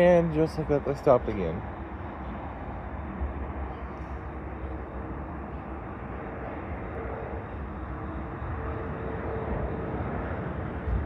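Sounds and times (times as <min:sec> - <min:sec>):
diesel locomotives idling: 0:00.0 - 0:11.0.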